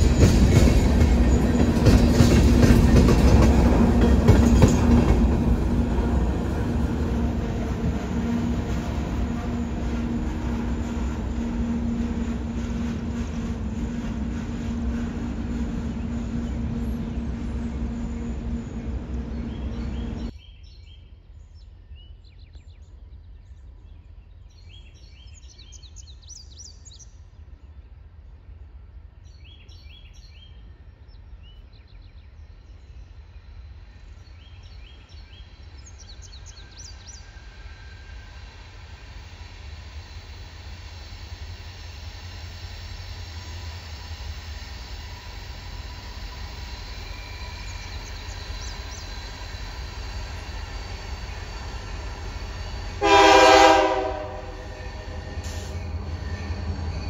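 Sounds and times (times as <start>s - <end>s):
diesel locomotive engine: 0.0s - 20.4s, 22.9s - 57.0s
birds chirping: 0.0s - 57.0s.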